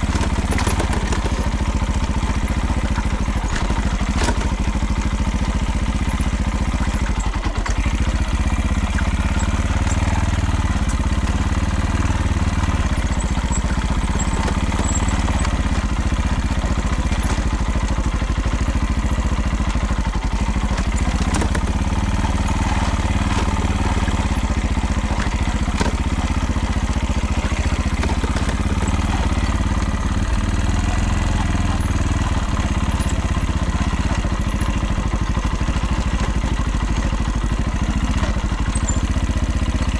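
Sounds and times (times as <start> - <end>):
constant rattle: 0.0 - 39.9
motorcycle engine running: 0.0 - 39.9.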